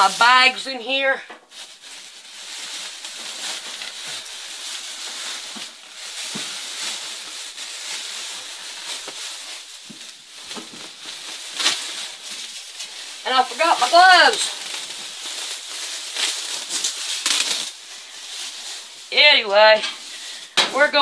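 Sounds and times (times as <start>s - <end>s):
plastic and insulation crackling: 0.0s - 21.0s.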